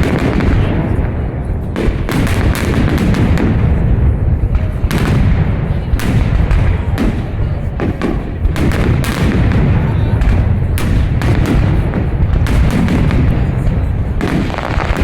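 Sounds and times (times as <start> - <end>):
continuous low rumble: 0.0 - 15.0
firework bangs: 0.0 - 15.0.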